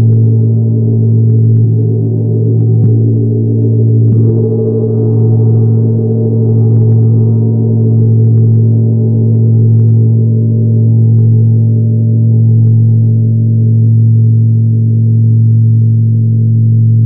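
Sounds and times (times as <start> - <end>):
gong ringing: 0.0 - 14.0.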